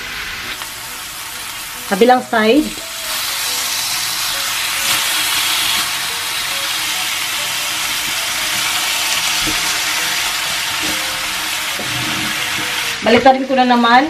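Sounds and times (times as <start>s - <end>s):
pork sizzling in a hot pan: 0.0s - 14.0s.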